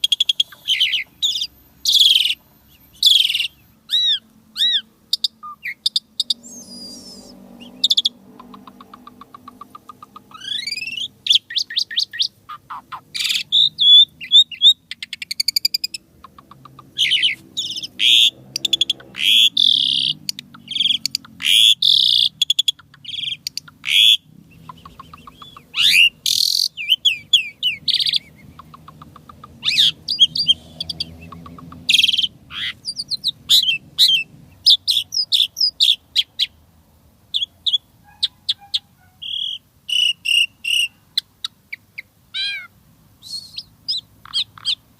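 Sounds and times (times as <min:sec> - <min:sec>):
starling singing: 0:00.0 - 0:36.6, 0:37.3 - 0:44.9.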